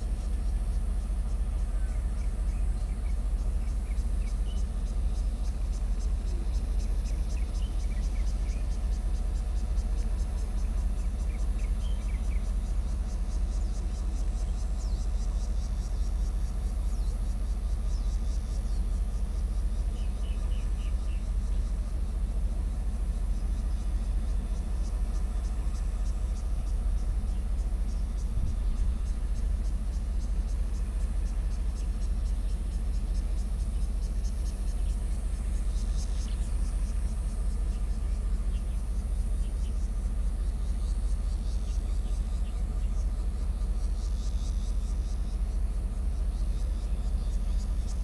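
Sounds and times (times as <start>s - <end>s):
insects buzzing: 0.0s - 48.0s
locomotive idling: 0.0s - 48.0s.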